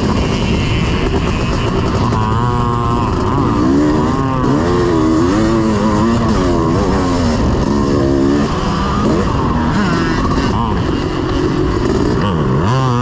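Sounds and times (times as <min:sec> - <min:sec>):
motorcycle engine revving: 0:00.0 - 0:13.0
steady rushing noise: 0:00.0 - 0:13.0.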